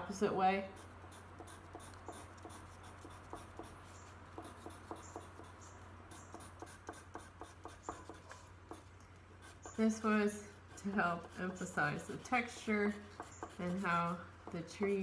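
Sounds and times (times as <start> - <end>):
colored pencil scratching paper: 0.6 - 15.0.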